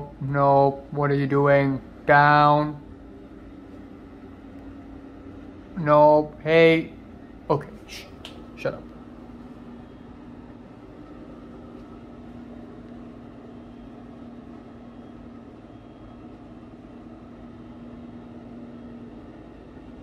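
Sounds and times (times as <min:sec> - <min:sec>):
exhaust fan humming: 0:00.0 - 0:20.0.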